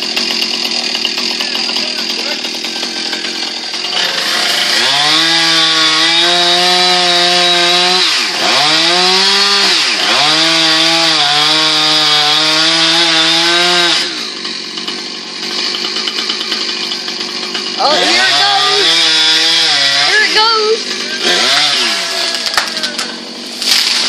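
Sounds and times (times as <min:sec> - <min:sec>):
chainsaw cutting into tree: 0:00.0 - 0:24.0.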